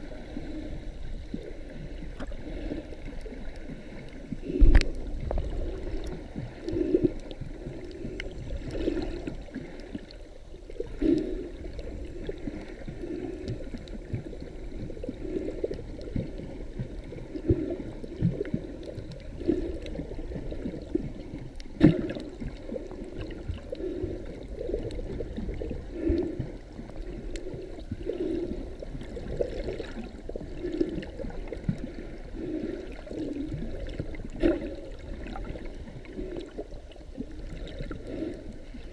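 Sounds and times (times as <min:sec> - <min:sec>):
muffled underwater water noise: 0:00.0 - 0:38.9.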